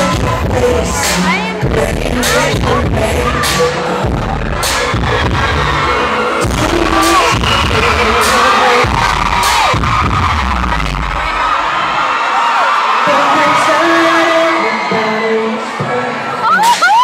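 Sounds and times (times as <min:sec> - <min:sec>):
live pop concert music: 0:00.0 - 0:17.0
crowd screaming: 0:02.2 - 0:17.0.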